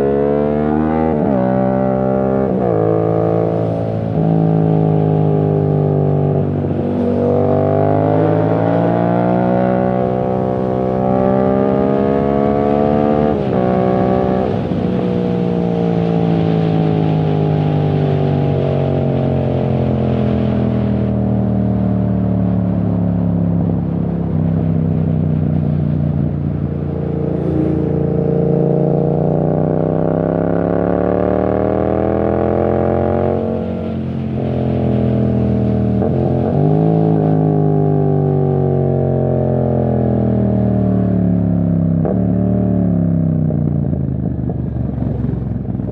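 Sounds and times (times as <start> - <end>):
motorcycle engine revving: 0.0 - 21.9, 23.6 - 45.9.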